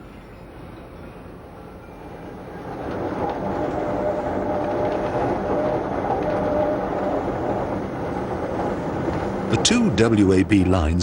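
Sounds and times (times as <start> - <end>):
rack railway train running: 0.0 - 11.0.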